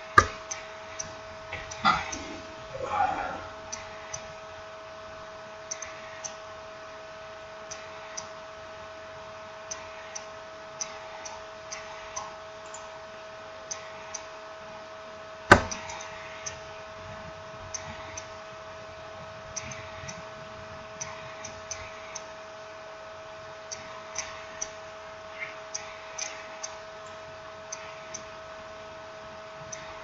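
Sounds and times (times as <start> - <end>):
faint electrical hum: 0.0 - 30.0.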